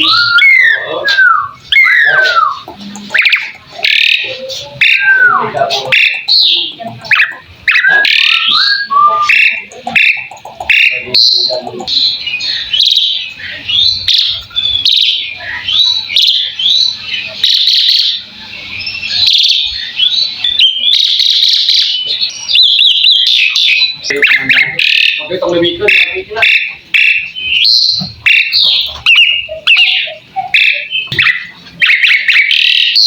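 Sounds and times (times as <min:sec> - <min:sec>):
starling singing varied chirps: 0:00.0 - 0:33.0.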